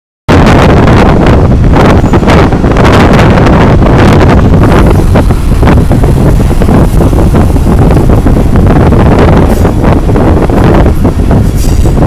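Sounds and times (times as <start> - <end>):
train carriage rumbling on track: 0.3 - 12.0
wind buffeting the microphone: 0.3 - 12.0.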